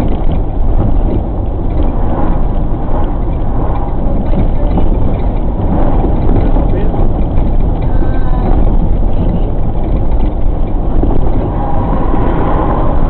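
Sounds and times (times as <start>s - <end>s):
engine and road noise drone: 0.0s - 13.0s
rattling and clattering: 0.0s - 13.0s.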